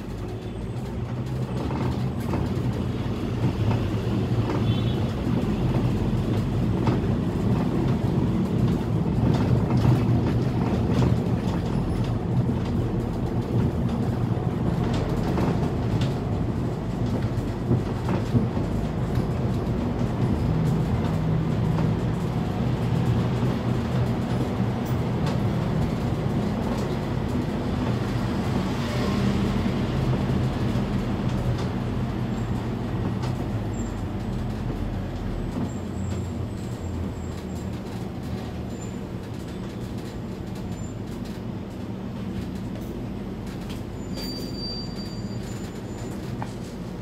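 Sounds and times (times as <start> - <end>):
bus diesel engine running: 0.0 - 47.0
road rumble: 0.0 - 47.0.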